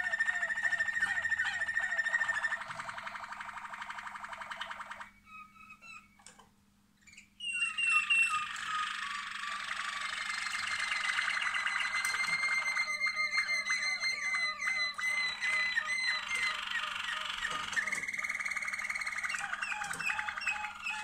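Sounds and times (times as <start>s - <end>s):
canary singing trills: 0.0s - 6.4s, 7.0s - 21.0s.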